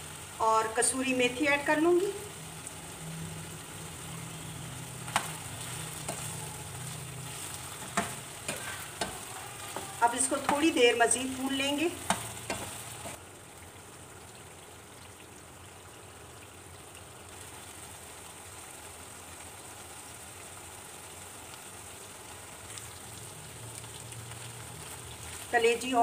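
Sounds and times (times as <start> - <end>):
liver sizzling in a pan: 0.0 - 26.0.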